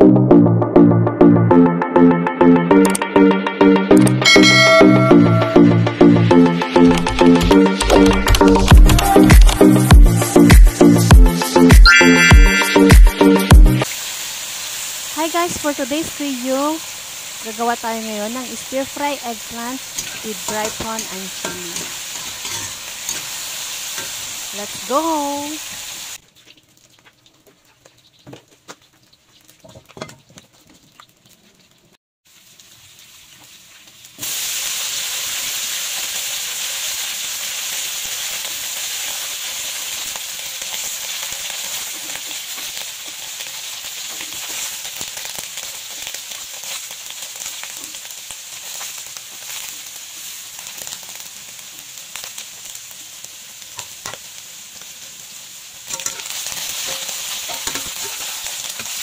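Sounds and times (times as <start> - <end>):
eggplant sizzling in oil: 8.2 - 59.0.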